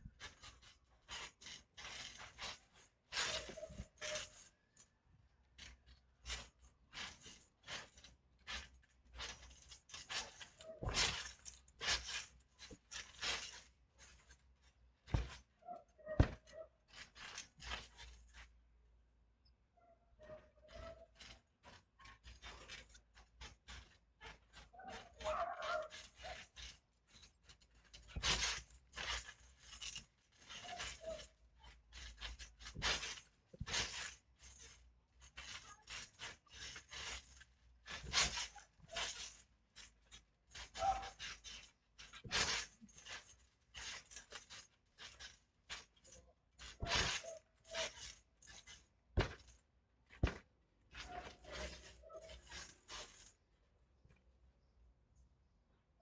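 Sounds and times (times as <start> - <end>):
bodies scuffing on trampoline mat: 6.3 - 18.5, 20.3 - 53.4.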